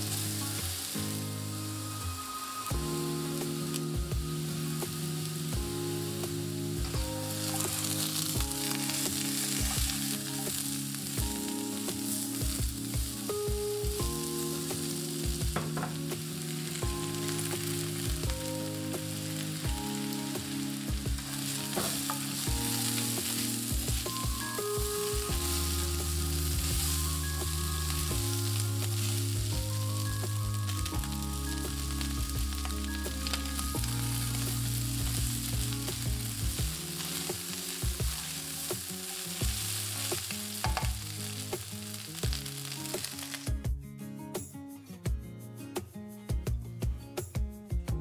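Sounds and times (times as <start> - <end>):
food sizzling in a frying pan: 0.0 - 43.6
soft background music: 0.0 - 48.0.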